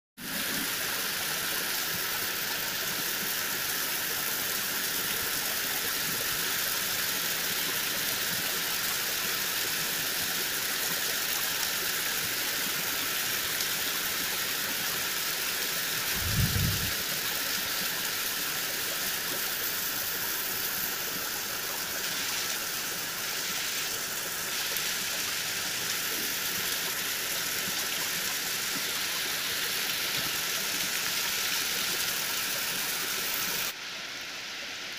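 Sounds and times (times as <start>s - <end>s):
heavy rain on leaves: 0.2s - 10.6s, 11.5s - 34.9s.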